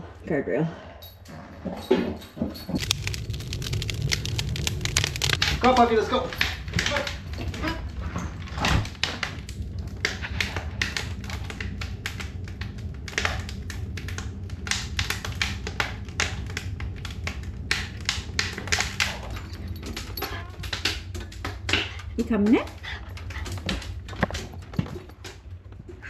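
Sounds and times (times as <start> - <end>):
wood fire crackling and popping: 2.6 - 26.0
steady low hum: 2.8 - 26.0.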